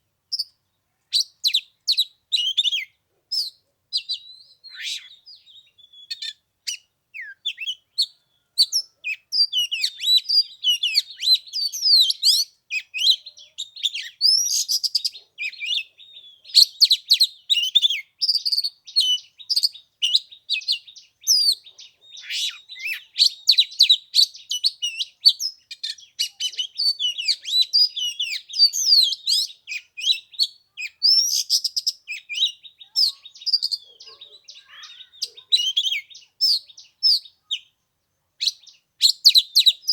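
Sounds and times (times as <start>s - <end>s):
bird singing varied whistles: 0.3s - 37.7s, 38.4s - 39.9s.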